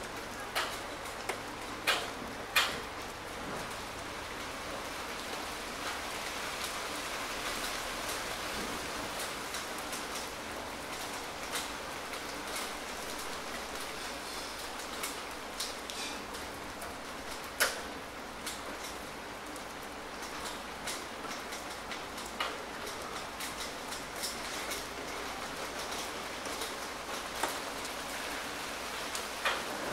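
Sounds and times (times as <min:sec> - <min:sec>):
raindrops tapping: 0:00.0 - 0:29.9
steady rain falling: 0:00.0 - 0:29.9.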